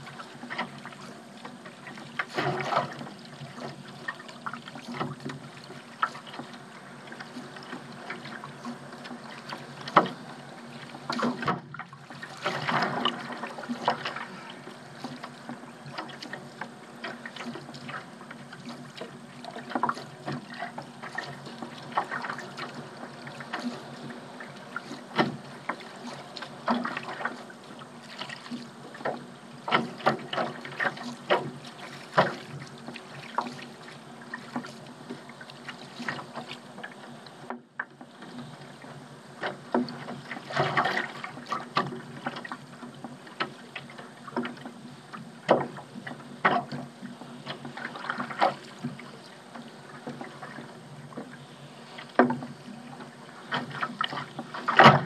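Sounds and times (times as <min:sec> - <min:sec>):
paddle splashing in water: 0:00.0 - 0:55.0
water slapping against boat: 0:00.0 - 0:55.0.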